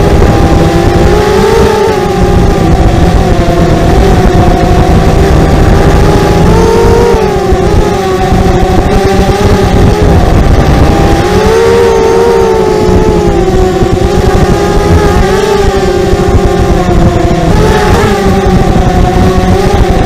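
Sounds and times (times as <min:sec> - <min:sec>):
drone buzzing whine: 0:00.0 - 0:20.0
heavy low rumble: 0:00.0 - 0:20.0.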